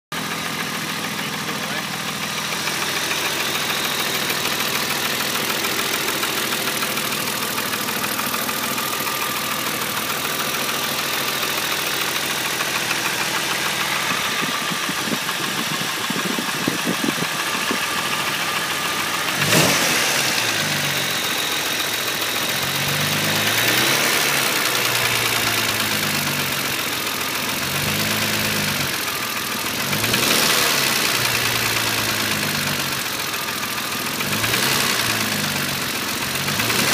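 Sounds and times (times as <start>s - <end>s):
car engine idling and revving: 0.1s - 36.9s
engine ticking knock: 0.2s - 36.9s.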